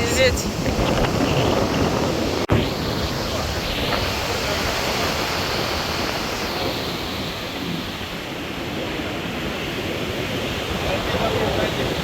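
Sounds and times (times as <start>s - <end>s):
surf washing on shore: 0.0s - 12.0s
wind on microphone: 0.0s - 12.0s.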